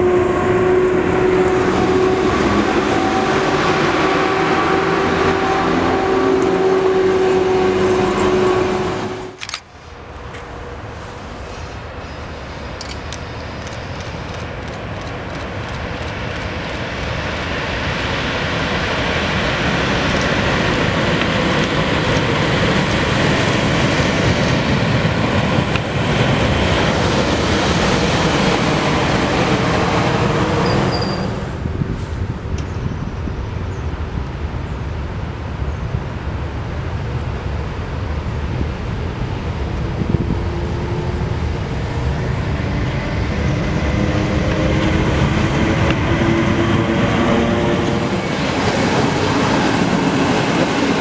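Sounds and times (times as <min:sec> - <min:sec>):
electric train drawing in: 0:00.0 - 0:51.0
passenger coaches rolling on rails: 0:00.0 - 0:51.0.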